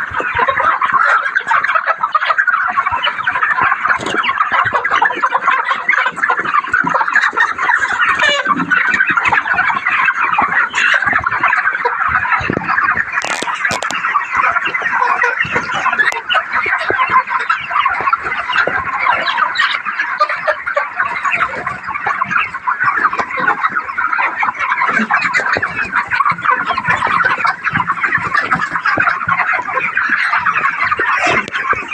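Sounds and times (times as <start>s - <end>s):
flock of chickens clucking: 0.0s - 31.9s.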